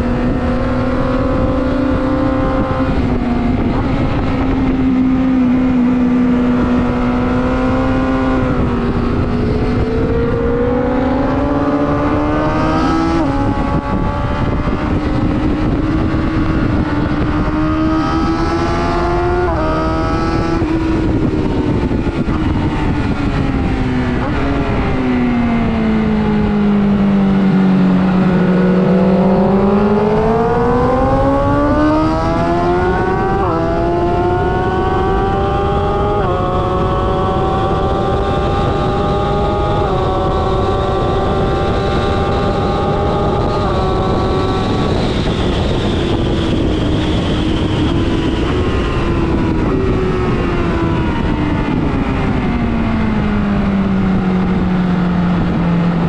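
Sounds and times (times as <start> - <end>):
motorcycle engine revving and upshifting: 0.0 - 56.0
wind noise: 0.0 - 56.0.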